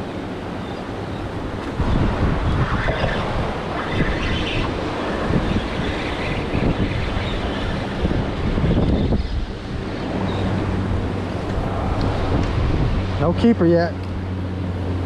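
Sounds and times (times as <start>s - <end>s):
choppy water and surf: 0.0s - 15.0s
wind buffeting microphone: 0.0s - 15.0s.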